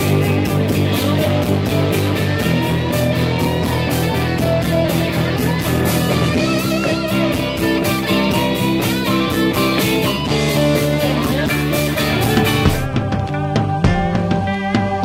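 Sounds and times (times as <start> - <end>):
bass: 0.0 - 15.0
drums keeping a steady beat: 0.0 - 15.0
electric guitar: 0.0 - 15.0.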